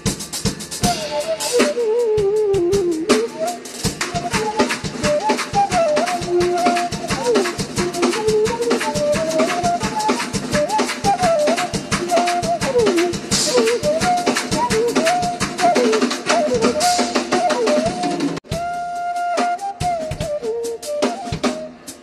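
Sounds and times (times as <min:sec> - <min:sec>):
fast drum kit playing: 0:00.0 - 0:22.0.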